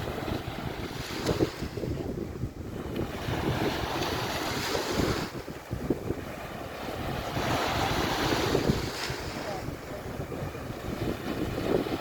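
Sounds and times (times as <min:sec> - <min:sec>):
waves washing onto beach: 0:00.0 - 0:12.0
wind buffeting microphone: 0:00.0 - 0:12.0.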